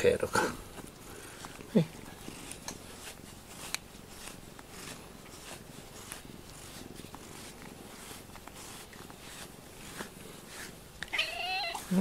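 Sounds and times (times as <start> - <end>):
brush scratching through fur: 0.0 - 12.0.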